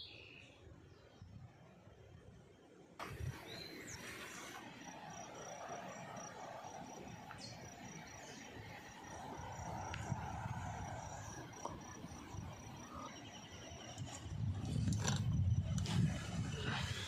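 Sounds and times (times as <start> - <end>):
insect pulsed high call: 3.0 - 17.0.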